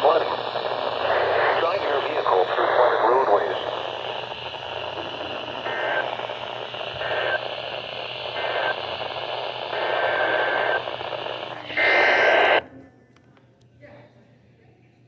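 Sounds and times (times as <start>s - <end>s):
radio static hiss: 0.0s - 12.6s.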